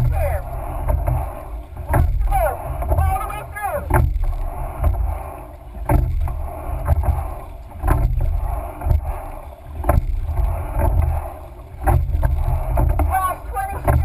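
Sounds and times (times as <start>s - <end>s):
oars knocking in oarlocks: 0.0s - 5.1s, 5.8s - 14.0s
low rumble: 0.0s - 14.0s
water rushing: 0.0s - 14.0s.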